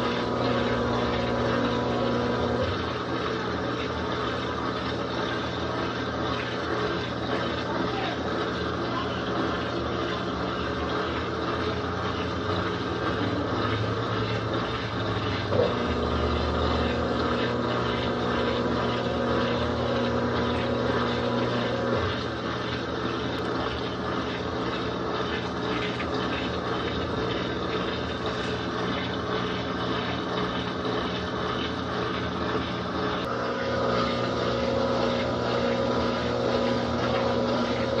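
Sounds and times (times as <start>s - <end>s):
electric motor humming and whirring: 0.0s - 38.0s.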